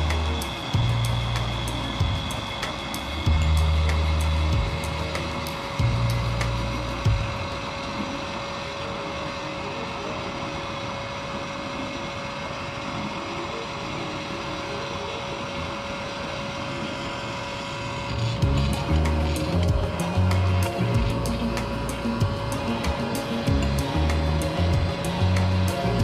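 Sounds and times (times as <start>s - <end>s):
burner stove roaring: 0.0s - 26.0s.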